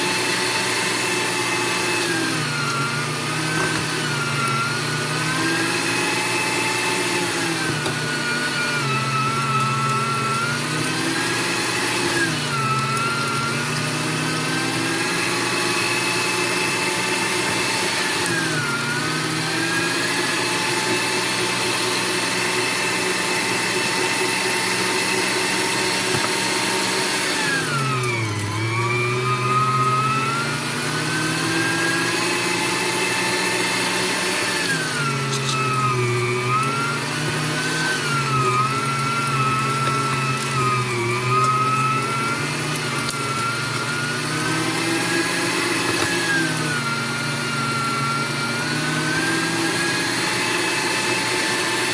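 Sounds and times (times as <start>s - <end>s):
meat grinder motor humming: 0.0s - 51.9s.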